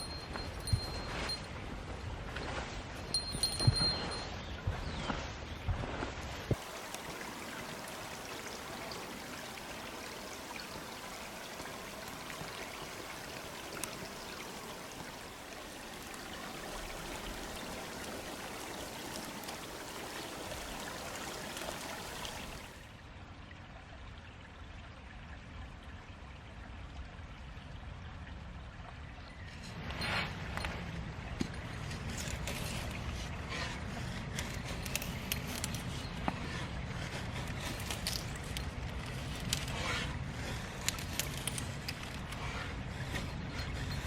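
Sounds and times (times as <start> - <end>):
running water rushing: 0.0 - 25.8, 26.4 - 44.0.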